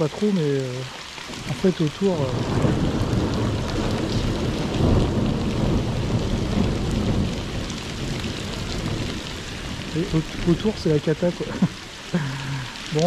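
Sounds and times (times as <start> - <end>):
heavy rain pouring: 0.0 - 13.0
thunder rumbling: 1.3 - 13.0.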